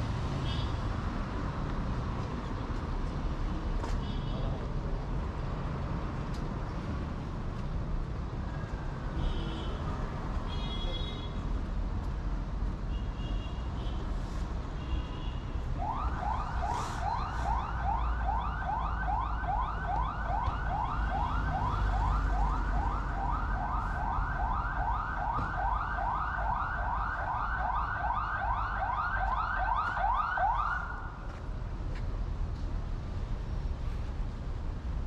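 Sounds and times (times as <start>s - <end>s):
low street traffic rumble: 0.0s - 35.0s.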